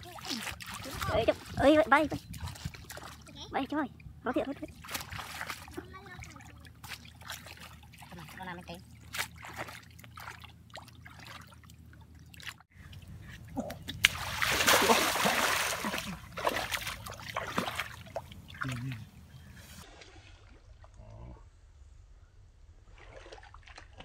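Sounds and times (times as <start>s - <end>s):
muddy water splashing: 0.0s - 21.2s, 22.8s - 24.0s.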